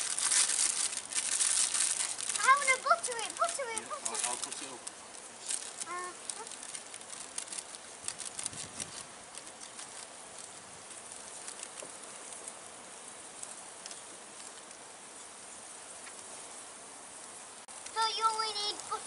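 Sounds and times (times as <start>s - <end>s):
campfire crackling and popping: 0.0s - 15.0s, 17.6s - 19.0s
steady hiss: 0.0s - 19.0s.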